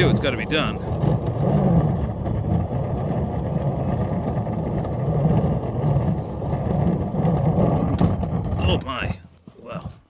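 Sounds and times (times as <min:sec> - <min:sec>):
electric motors grinding under load: 0:00.0 - 0:08.6.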